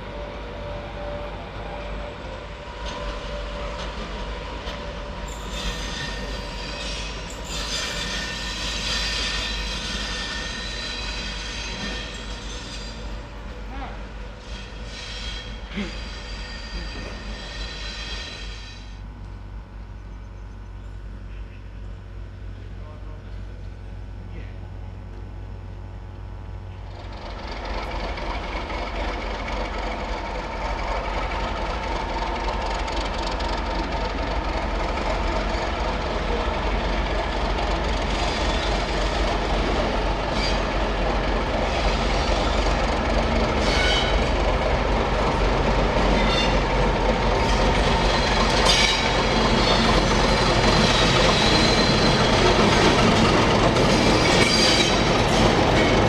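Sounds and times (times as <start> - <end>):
train approaching: 0.0 - 24.2, 26.2 - 56.0.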